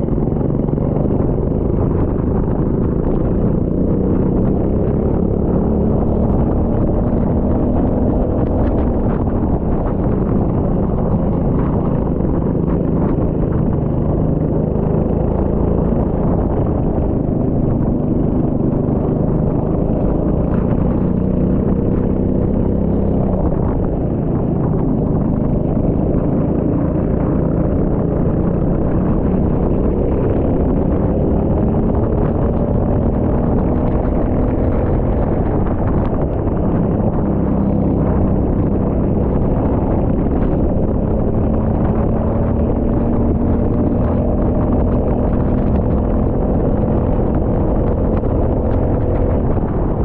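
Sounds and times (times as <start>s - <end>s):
noisy rush: 0.0s - 50.0s.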